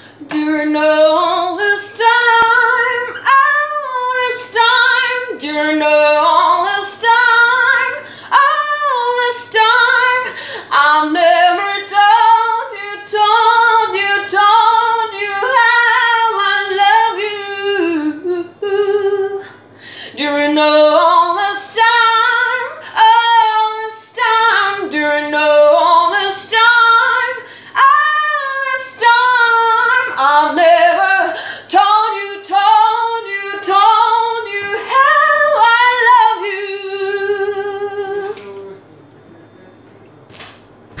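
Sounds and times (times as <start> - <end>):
woman singing unaccompanied: 0.0 - 19.6, 20.2 - 38.5.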